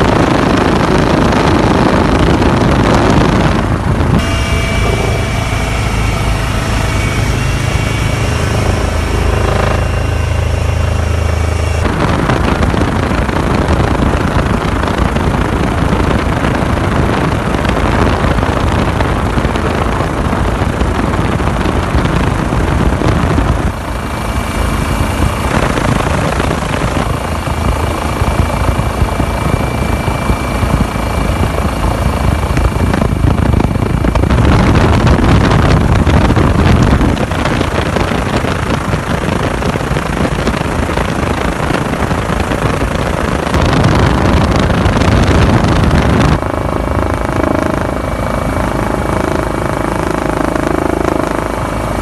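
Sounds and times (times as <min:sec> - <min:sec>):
helicopter engine and rotor: 0:00.0 - 0:52.0.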